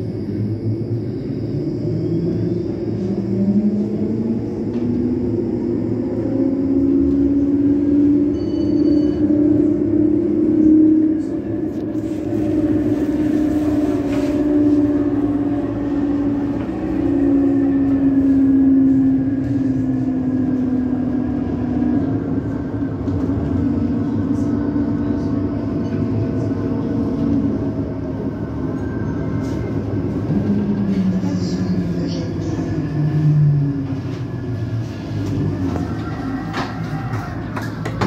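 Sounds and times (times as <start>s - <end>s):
tram wheels rumbling on rails: 0.0s - 38.0s.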